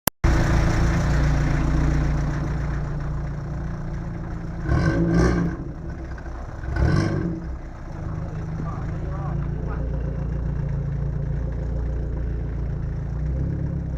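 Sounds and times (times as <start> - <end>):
car engine idling and revving: 0.2 - 13.9.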